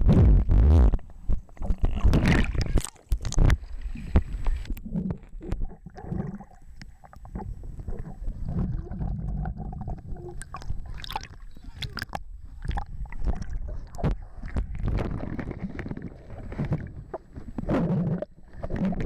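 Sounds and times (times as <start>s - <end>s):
muffled underwater splashing: 0.0s - 19.0s
underwater gurgles and rumbles: 0.0s - 19.0s.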